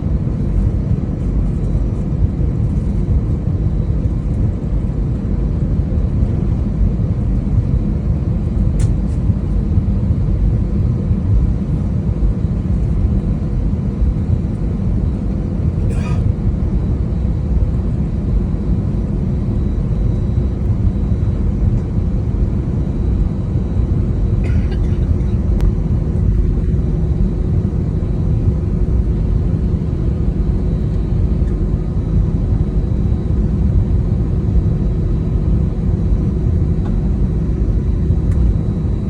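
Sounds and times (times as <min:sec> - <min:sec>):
aircraft engine rumble: 0:00.0 - 0:39.0
faint steady hum: 0:00.0 - 0:39.0.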